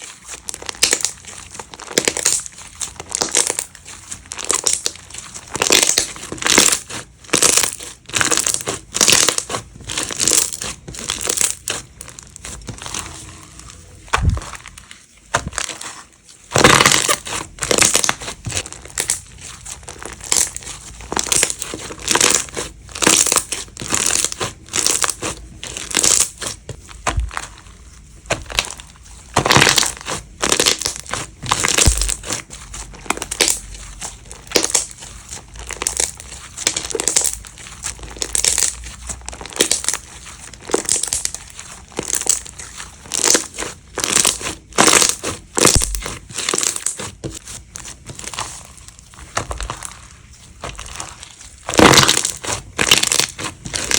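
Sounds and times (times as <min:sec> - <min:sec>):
slime squeezed crackling: 0:00.0 - 0:53.9.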